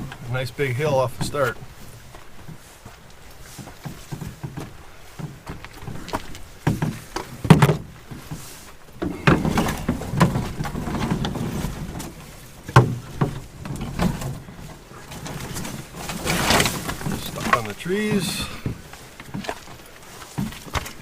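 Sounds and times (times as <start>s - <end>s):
footsteps on trail: 0.0s - 21.0s
gear knocking and thudding: 3.6s - 21.0s.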